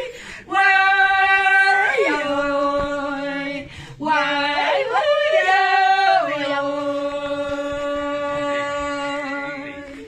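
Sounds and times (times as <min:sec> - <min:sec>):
women singing unaccompanied: 0:00.0 - 0:10.0.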